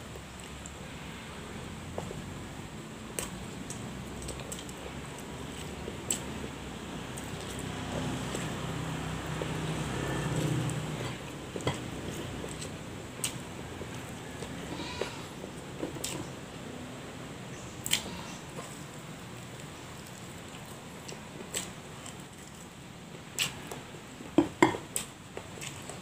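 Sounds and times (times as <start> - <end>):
man chewing food: 0.0 - 0.8, 3.0 - 16.5, 17.8 - 26.0.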